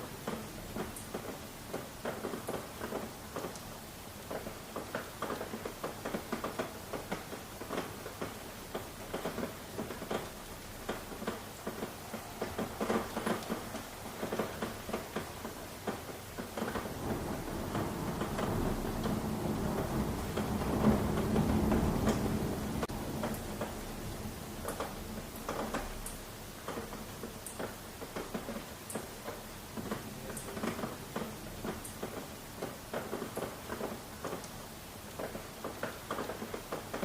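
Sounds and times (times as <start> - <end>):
rain drops pattering: 0.0 - 37.0.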